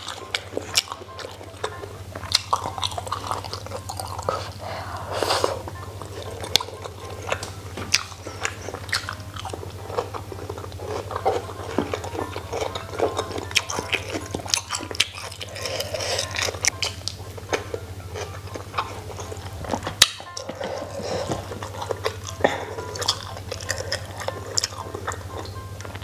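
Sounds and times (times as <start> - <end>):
chewing and mouth sounds: 0.0 - 26.0.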